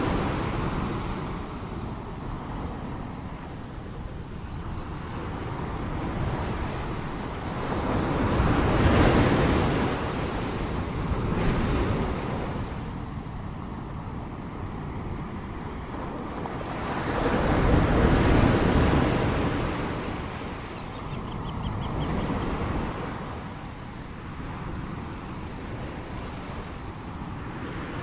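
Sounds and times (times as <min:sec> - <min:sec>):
ocean waves breaking on shore: 0:00.0 - 0:28.0.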